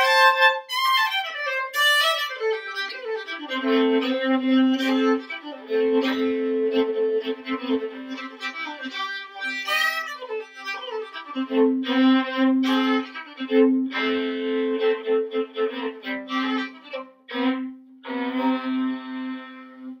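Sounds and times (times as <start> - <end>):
fiddle drone string: 0.0 - 20.0
solo fiddle tune: 0.0 - 20.0.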